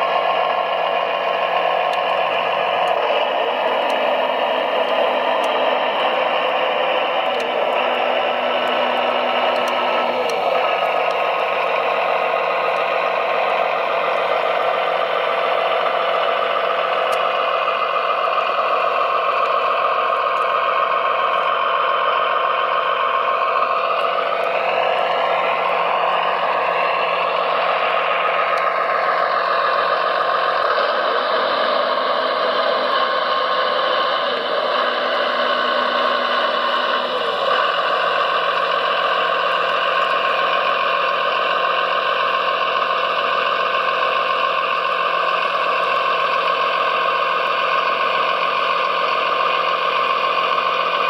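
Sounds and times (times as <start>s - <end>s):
electric motor and gear whine: 0.0s - 51.0s.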